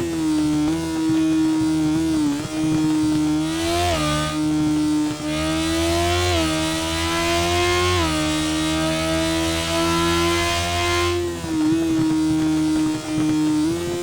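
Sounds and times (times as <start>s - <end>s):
motorcycle engine accelerating: 0.0s - 14.0s
wind and road noise: 0.0s - 14.0s.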